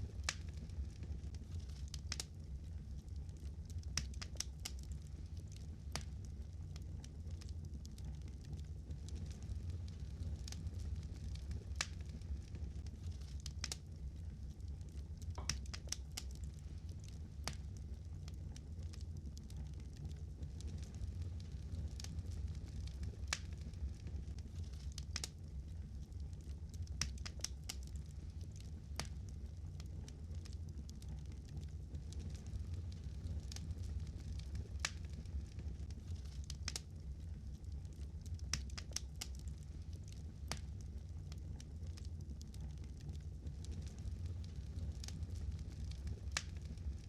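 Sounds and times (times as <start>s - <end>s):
fire crackling and popping: 0.0s - 47.0s
low fire rumble: 0.0s - 47.0s.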